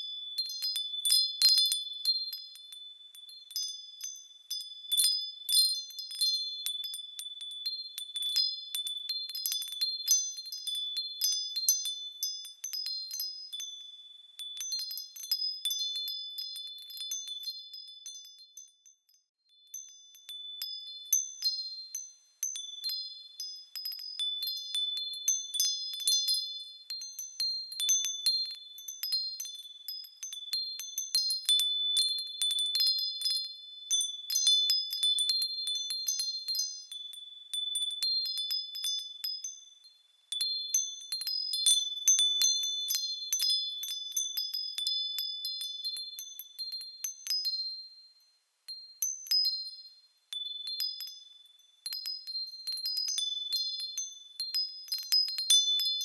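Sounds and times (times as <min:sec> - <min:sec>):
small metal bells tinkling: 0:00.0 - 0:56.0.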